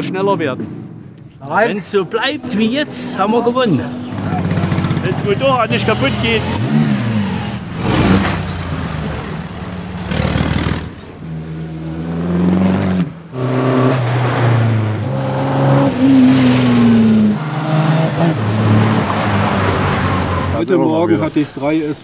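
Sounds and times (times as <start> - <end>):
racing engines revving: 0.0 - 22.0.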